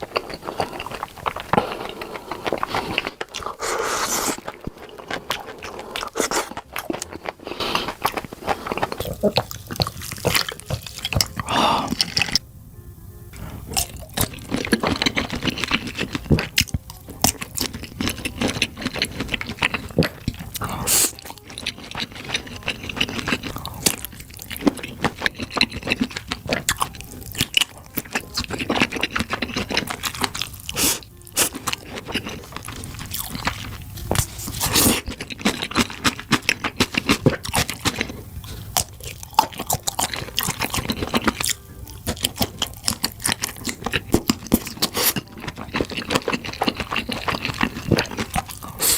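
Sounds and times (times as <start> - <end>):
biting and chewing sausages: 0.0 - 12.4, 13.4 - 48.9
sausage casings crunching: 0.0 - 12.4, 13.7 - 48.9
background music: 5.3 - 48.9.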